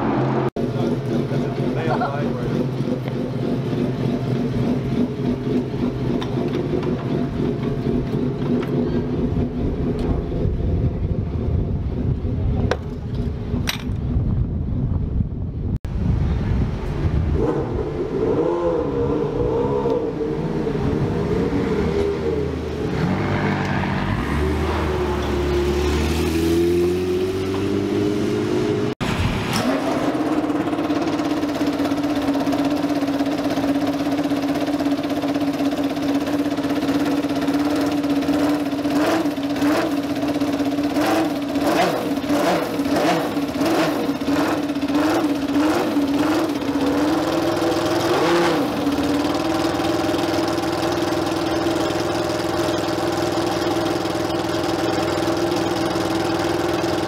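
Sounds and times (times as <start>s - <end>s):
car engine revving: 0.0s - 12.5s, 17.4s - 57.0s.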